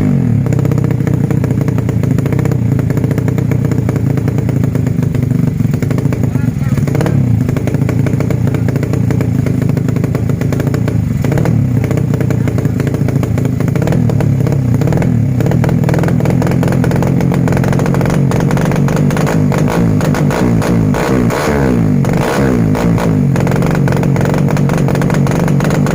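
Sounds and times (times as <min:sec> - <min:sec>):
motorcycle engine exhaust note: 0:00.0 - 0:25.9.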